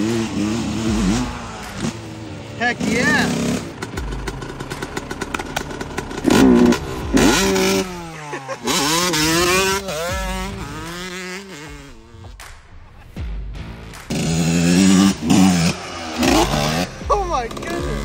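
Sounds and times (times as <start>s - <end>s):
dirt bike engine revving: 0.0s - 12.4s, 14.0s - 18.0s.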